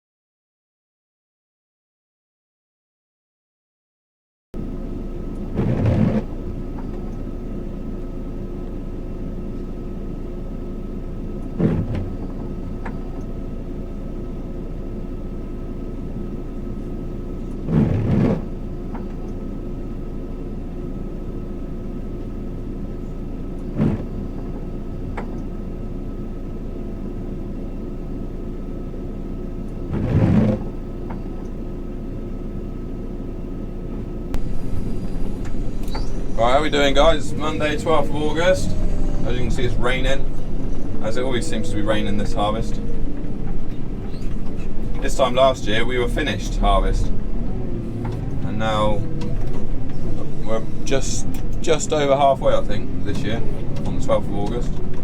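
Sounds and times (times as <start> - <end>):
engine idling: 4.6 - 55.0.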